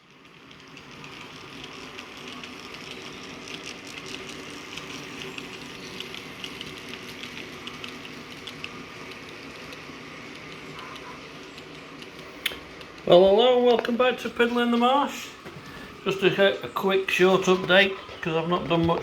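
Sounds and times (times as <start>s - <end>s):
model train motor whirr: 0.0s - 19.0s
wheels clicking on rails: 0.0s - 19.0s.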